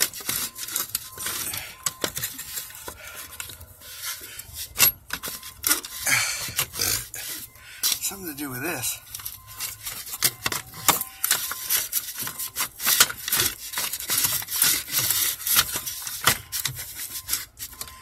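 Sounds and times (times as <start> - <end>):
rubbing of parts: 0.0 - 18.0.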